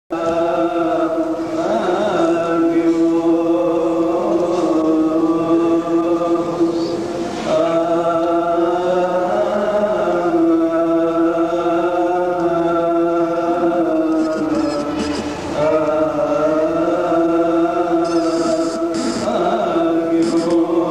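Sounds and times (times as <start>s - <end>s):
priest chanting: 0.1s - 20.9s.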